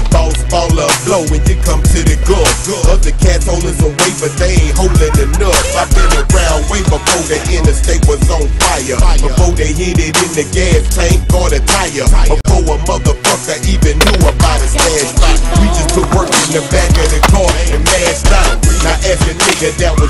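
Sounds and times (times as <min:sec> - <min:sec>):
hip hop music with heavy bass: 0:00.0 - 0:20.0.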